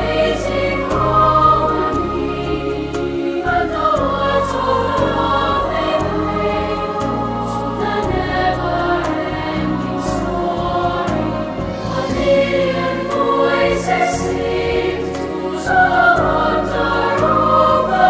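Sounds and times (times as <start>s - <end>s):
choir singing sustained notes: 0.0s - 18.0s
steady low bass: 0.0s - 18.0s.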